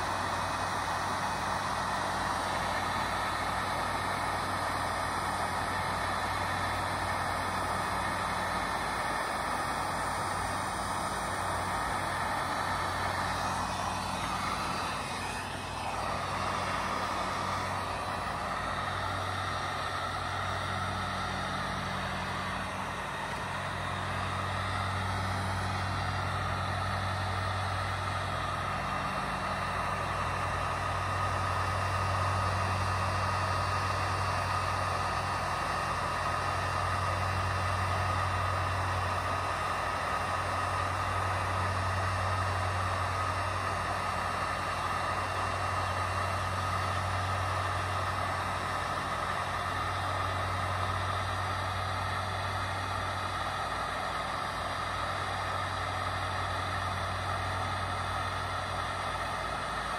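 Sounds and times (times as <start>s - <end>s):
heat gun fan blowing: 0.0s - 59.9s.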